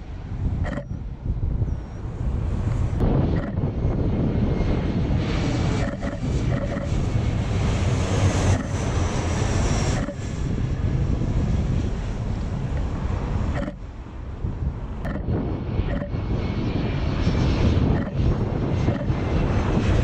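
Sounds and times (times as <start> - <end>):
jet engines roaring overhead: 0.0 - 20.0.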